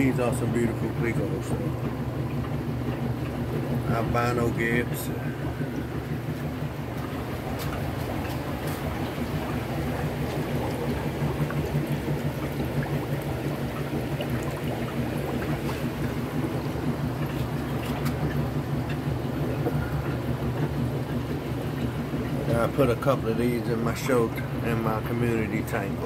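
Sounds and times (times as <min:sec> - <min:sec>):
filter humming: 0:00.0 - 0:26.0
water trickling and bubbling: 0:00.0 - 0:26.0.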